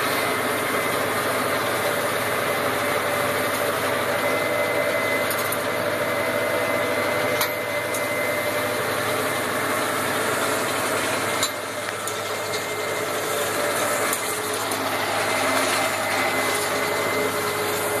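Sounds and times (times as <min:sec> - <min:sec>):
tractor running under load: 0:00.0 - 0:18.0.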